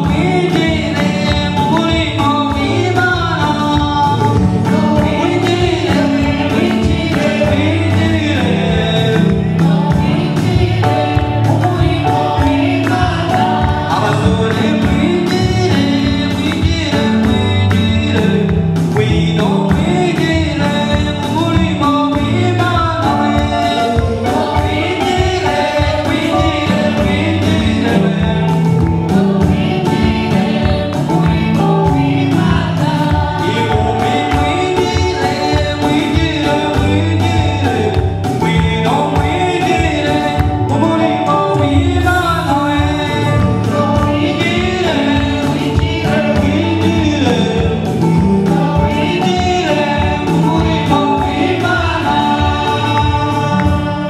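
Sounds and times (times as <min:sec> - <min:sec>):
band backing with bass: 0:00.0 - 0:54.0
even drum beat: 0:00.0 - 0:54.0
men singing into microphones: 0:00.0 - 0:54.0.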